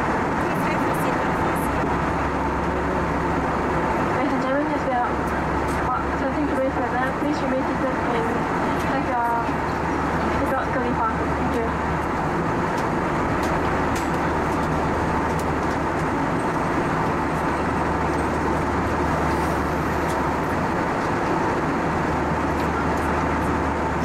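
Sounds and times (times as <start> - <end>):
airflow and jet engines rushing: 0.0 - 24.0.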